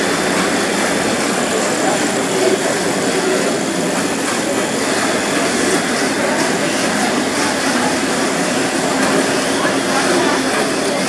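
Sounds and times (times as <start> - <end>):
busy indoor exhibition hall din: 0.0 - 11.0.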